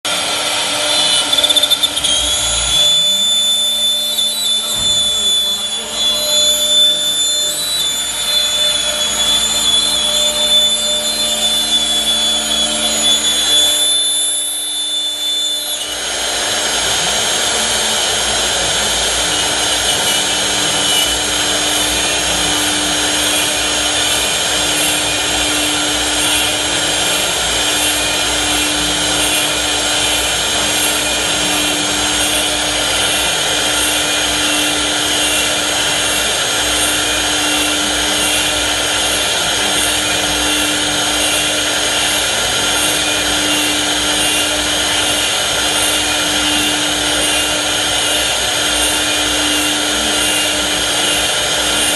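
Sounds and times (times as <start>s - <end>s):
machining noise: 0.1s - 51.9s
router spindle whine: 0.1s - 51.9s.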